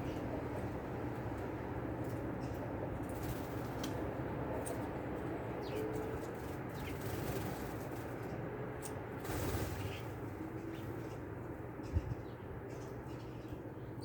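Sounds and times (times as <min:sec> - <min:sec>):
small birds chirping: 0:00.0 - 0:04.0, 0:04.6 - 0:14.0
steady background hiss and rumble: 0:00.0 - 0:14.0.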